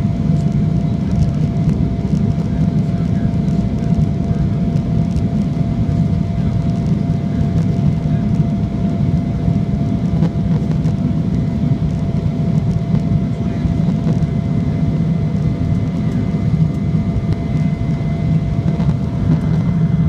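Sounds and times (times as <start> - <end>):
airliner cabin engine drone: 0.0 - 20.0.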